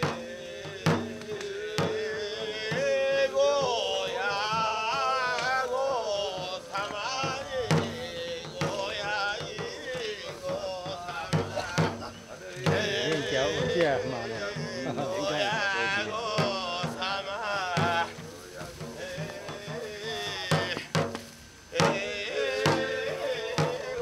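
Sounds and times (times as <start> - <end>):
taiko drum strikes: 0.0 - 5.7, 6.3 - 24.0
person chanting: 0.0 - 21.0, 21.7 - 24.0.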